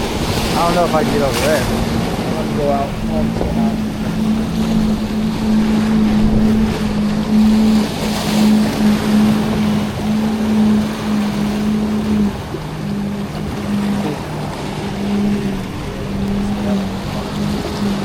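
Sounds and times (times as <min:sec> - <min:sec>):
boat engine humming: 0:00.0 - 0:18.0
waves washing: 0:00.0 - 0:18.0
wind on microphone: 0:00.0 - 0:18.0.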